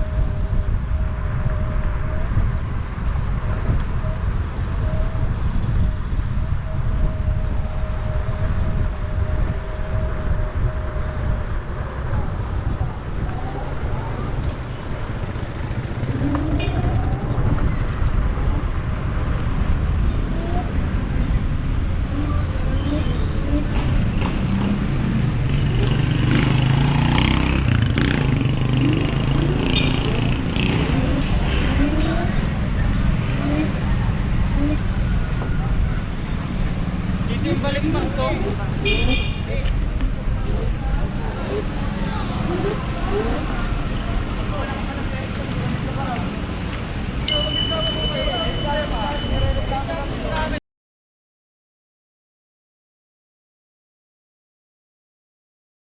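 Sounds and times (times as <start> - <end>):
wind and road noise rumble: 0.0 - 50.6.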